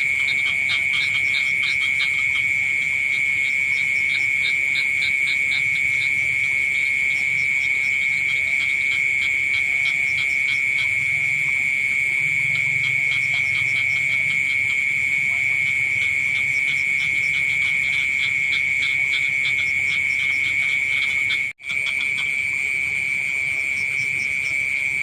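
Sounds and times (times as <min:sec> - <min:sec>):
mole crickets trilling: 0:00.0 - 0:25.0
pulsed frog and cricket calls: 0:00.0 - 0:25.0.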